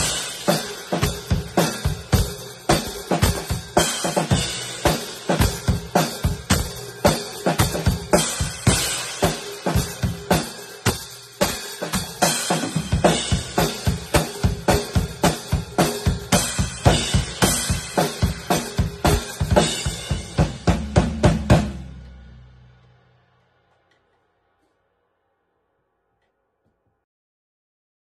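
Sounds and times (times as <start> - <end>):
drum kit played hard: 0.0 - 23.1.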